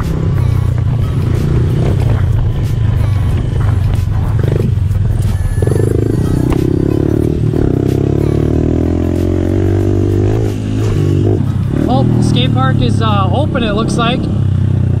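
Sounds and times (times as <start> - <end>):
pit bike engine running: 0.0 - 15.0.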